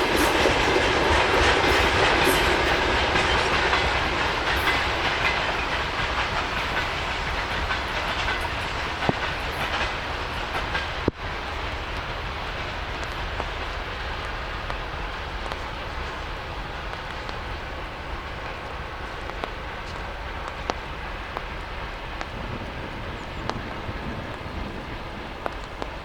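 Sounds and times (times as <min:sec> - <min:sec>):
train wheels clacking over rail joints: 0:00.0 - 0:26.0.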